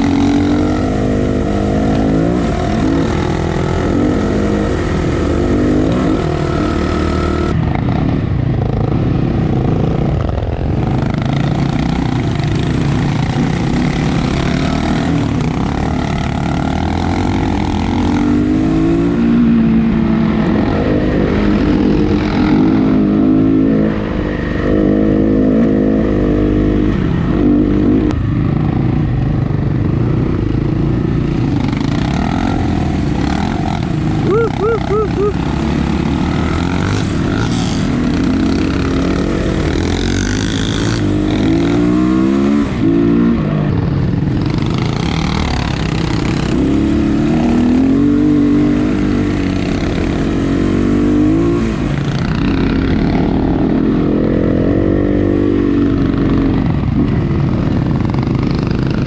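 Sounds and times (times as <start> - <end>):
dirt bike engine revving: 0.0 - 28.1, 29.8 - 59.0.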